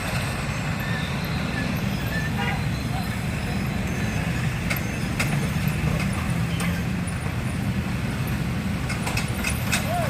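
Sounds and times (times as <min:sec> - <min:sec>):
heavy vehicle rumbling: 0:00.0 - 0:10.0.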